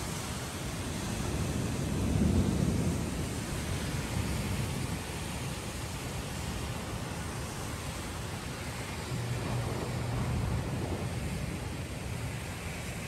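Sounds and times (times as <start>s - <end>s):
heavy rain and hail: 0.0s - 13.0s.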